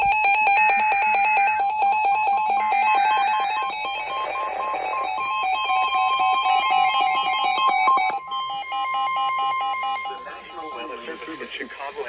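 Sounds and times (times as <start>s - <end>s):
screeching digital header bursts: 0.0s - 11.6s
steady alert tone: 0.8s - 11.7s.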